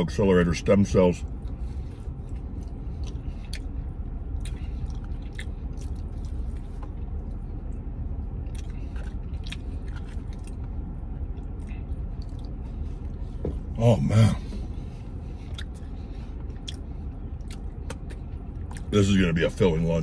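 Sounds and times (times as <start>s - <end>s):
steady low rumble: 0.0s - 20.0s
man chewing crunchy food: 1.3s - 13.8s, 14.4s - 19.0s.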